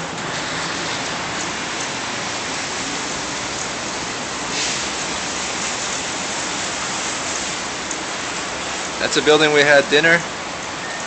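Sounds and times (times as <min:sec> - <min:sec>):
wet snow and rain on pavement: 0:00.0 - 0:11.0.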